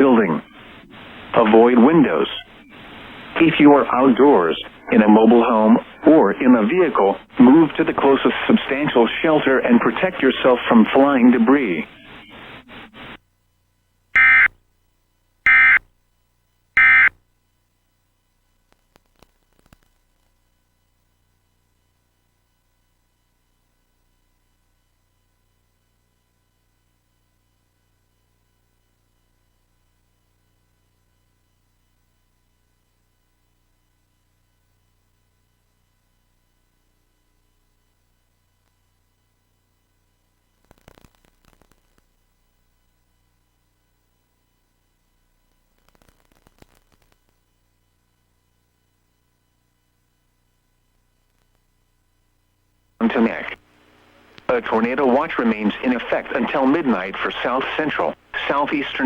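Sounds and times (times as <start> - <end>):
faint steady hum and hiss: 0.0 - 59.0.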